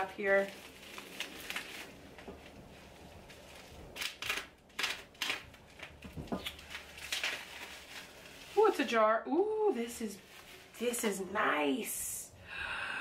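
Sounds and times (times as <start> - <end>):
bubble wrap crinkling: 0.0 - 11.3.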